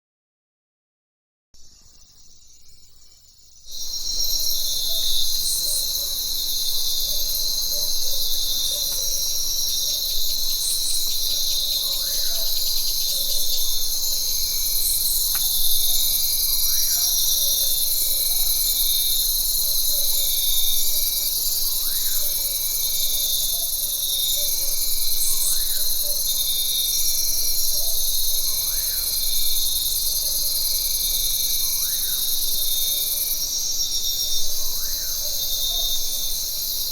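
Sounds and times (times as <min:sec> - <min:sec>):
insect chorus: 0:01.6 - 0:36.9.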